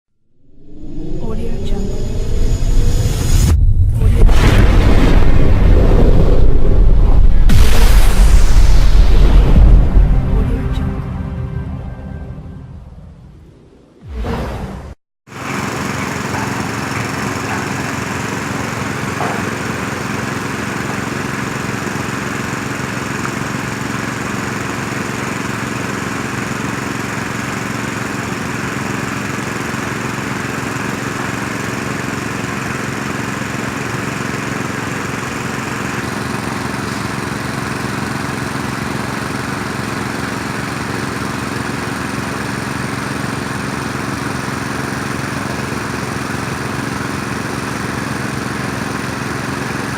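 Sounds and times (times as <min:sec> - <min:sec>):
heavy diesel engine running: 0:00.7 - 0:49.9.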